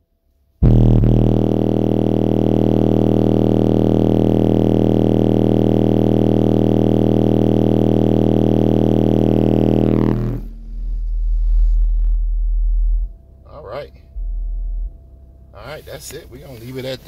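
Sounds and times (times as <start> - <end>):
distorted sub-bass tone: 0.6 - 17.0.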